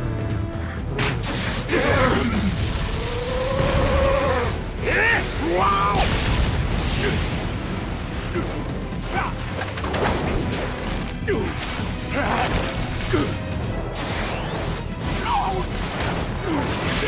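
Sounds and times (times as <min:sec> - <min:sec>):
dramatic background music: 0:00.0 - 0:17.0.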